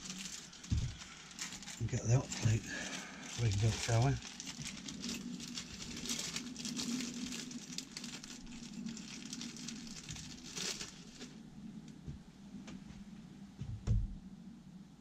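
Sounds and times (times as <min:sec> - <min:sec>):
rustling and crinkling: 0:00.0 - 0:13.9
low steady hum: 0:00.0 - 0:15.0.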